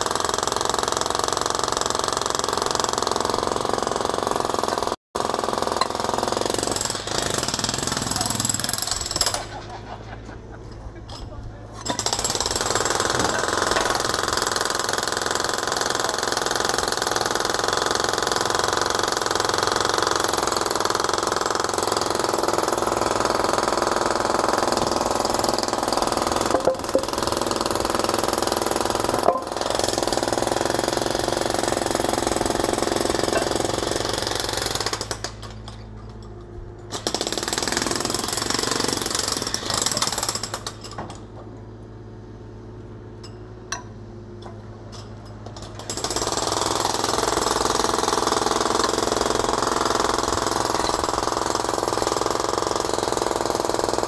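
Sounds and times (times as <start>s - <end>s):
jackhammer breaking concrete: 0.0s - 9.6s, 11.8s - 36.0s, 36.9s - 41.3s, 45.4s - 54.0s.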